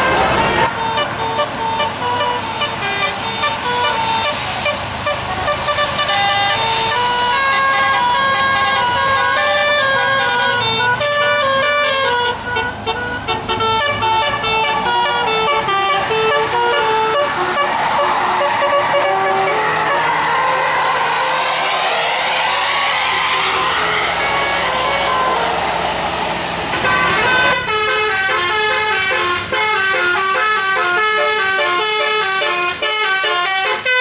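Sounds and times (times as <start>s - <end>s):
musical air horn playing a tune: 0.4s - 26.0s, 26.7s - 34.0s.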